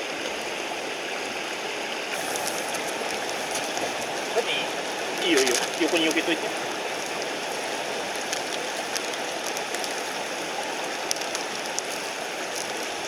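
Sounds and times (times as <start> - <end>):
mountain stream rushing: 0.0 - 13.0
campfire crackling: 2.0 - 13.0.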